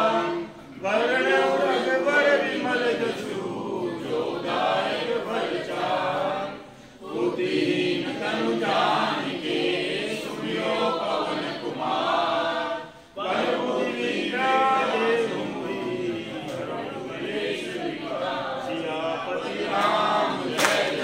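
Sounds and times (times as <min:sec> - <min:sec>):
group singing a hymn in unison: 0:00.0 - 0:21.0.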